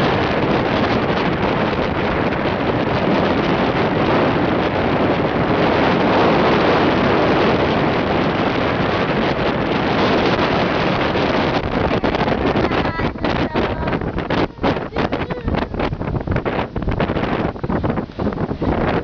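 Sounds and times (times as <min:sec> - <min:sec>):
wind blowing over microphone: 0:00.0 - 0:19.0.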